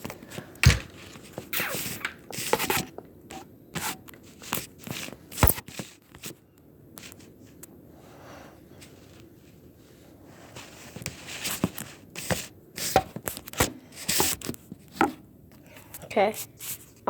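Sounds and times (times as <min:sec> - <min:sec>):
rustling and scraping: 0:00.0 - 0:06.4, 0:08.8 - 0:17.0.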